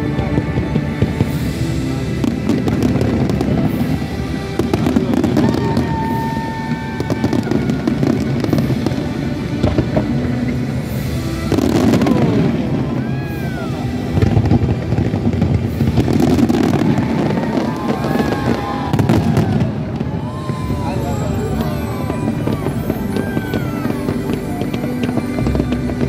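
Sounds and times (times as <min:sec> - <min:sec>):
fireworks bangs and crackling: 0:00.0 - 0:26.0
music playing: 0:00.0 - 0:26.0.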